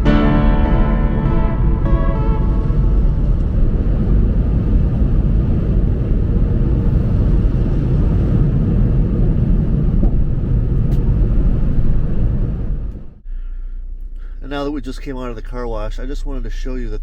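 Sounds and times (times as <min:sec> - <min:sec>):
car wash low rumble: 0:00.0 - 0:17.0.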